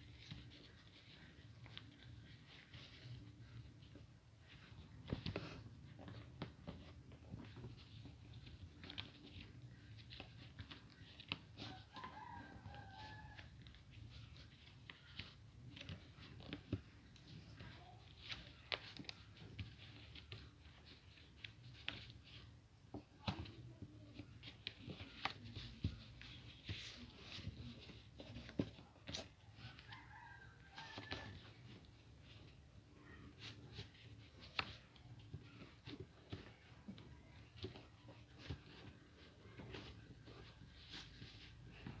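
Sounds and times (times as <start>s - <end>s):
paper rustling while folded: 0.0s - 42.0s.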